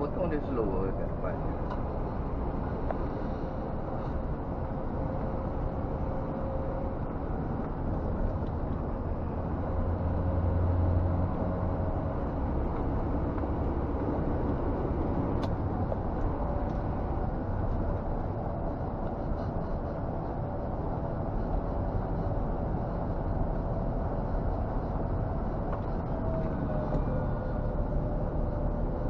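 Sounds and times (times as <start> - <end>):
road noise: 0.0 - 29.0
truck engine drone: 0.0 - 29.0.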